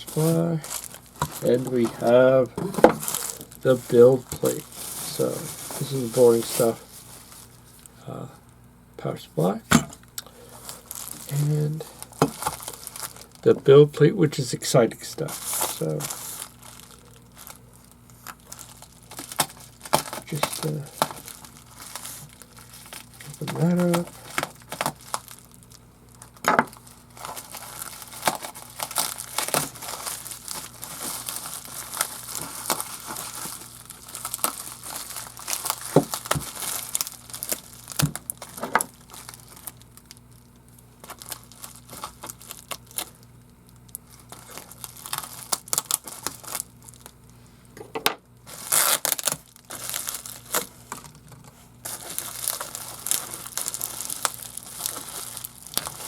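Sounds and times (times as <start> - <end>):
packaging crinkling and tearing: 0.0 - 8.0, 9.4 - 47.4, 48.4 - 56.0.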